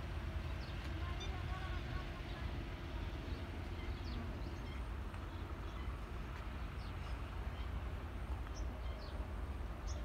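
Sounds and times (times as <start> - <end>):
birds chirping: 0.4 - 10.0.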